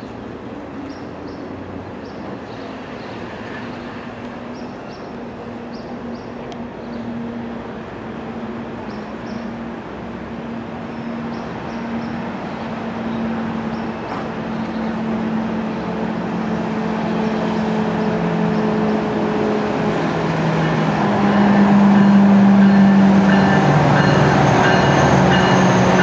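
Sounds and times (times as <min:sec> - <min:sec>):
distant train engine hum: 0:00.0 - 0:26.0.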